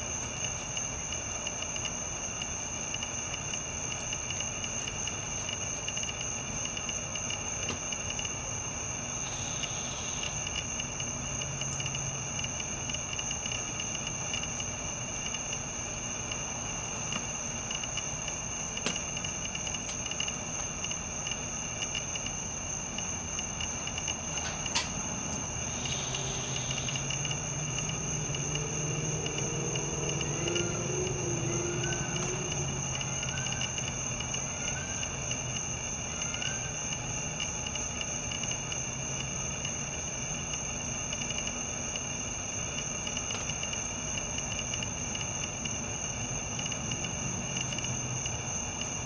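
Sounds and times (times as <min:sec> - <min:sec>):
crickets trilling: 0:00.0 - 0:49.0.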